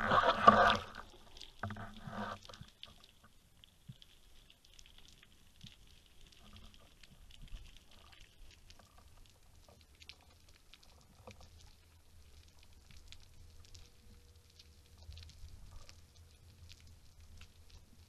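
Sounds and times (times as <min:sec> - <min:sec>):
underwater clicks and crackles: 0:00.0 - 0:18.0.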